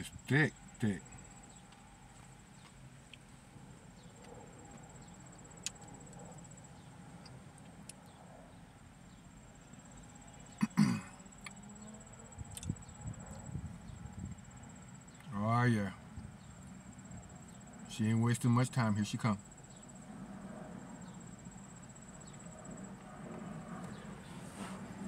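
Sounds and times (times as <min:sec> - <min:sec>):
insects chirring: 0:03.8 - 0:08.0, 0:09.2 - 0:25.0.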